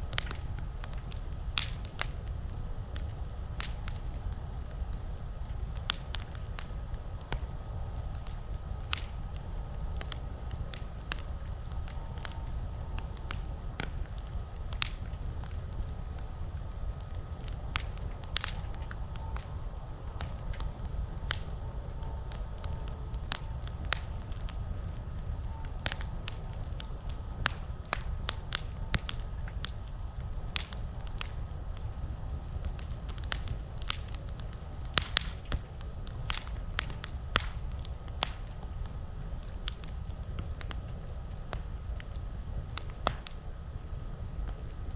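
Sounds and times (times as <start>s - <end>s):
campfire crackling: 0.0s - 44.9s
sharp fire pops: 0.0s - 44.9s
steady low rumble: 0.0s - 44.9s.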